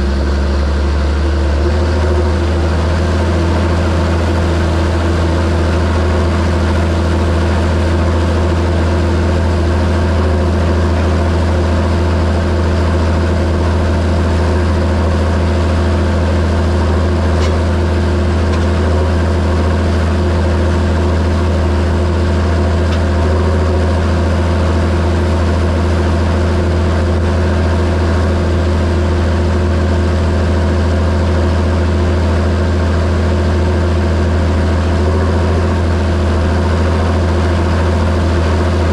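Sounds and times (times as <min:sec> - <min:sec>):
tractor diesel engine humming: 0:00.0 - 0:38.9.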